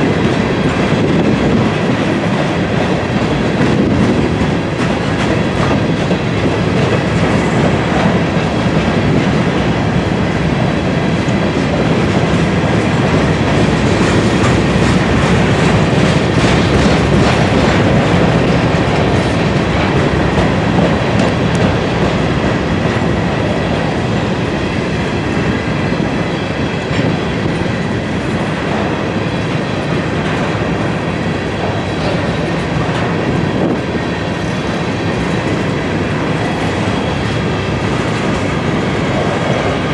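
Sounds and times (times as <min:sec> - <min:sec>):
train rumble: 0:00.0 - 0:39.9
train wheels clacking on rail joints: 0:00.0 - 0:39.9.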